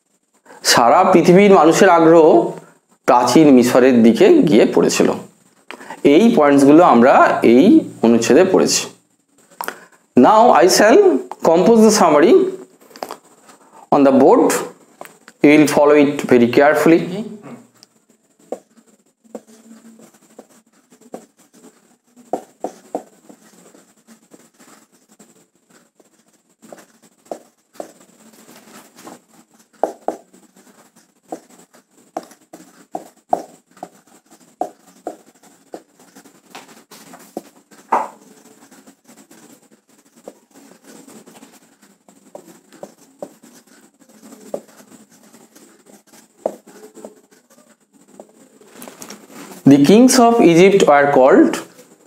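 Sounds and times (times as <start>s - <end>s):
marker squeaking on whiteboard: 3.2s - 52.0s.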